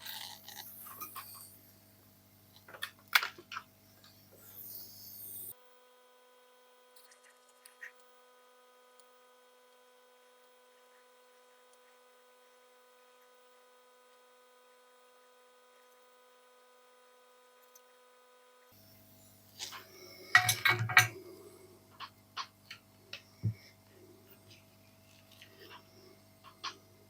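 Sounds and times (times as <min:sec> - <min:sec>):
faint electrical hum: 0:00.0 - 0:27.0.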